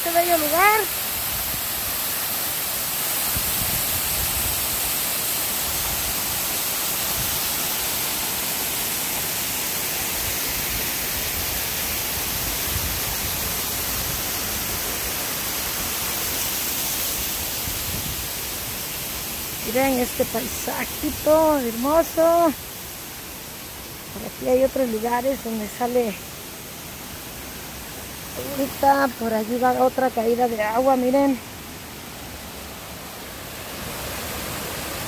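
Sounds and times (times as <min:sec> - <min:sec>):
waterfall rushing hiss: 0:00.0 - 0:35.0.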